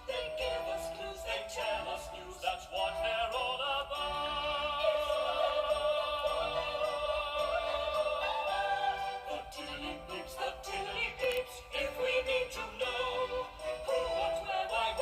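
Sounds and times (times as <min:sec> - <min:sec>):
operatic singing with music: 0:00.0 - 0:15.0.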